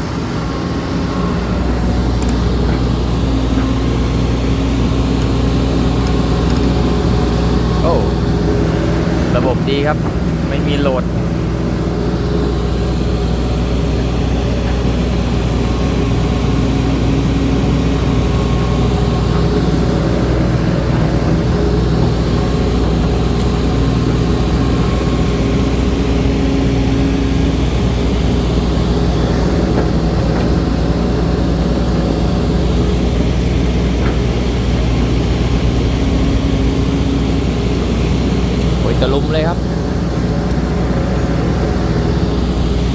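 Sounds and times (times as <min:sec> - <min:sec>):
excavator diesel engine running: 0:00.0 - 0:42.9
hydraulic pump running: 0:00.0 - 0:42.9.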